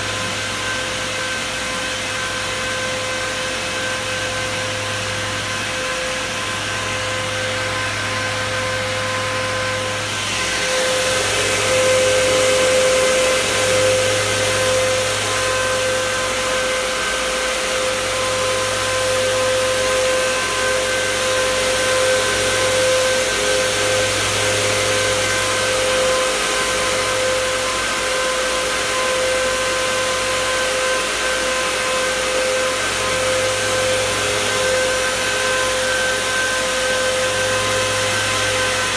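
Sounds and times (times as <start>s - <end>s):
fans rushing with a whine: 0.0s - 38.9s.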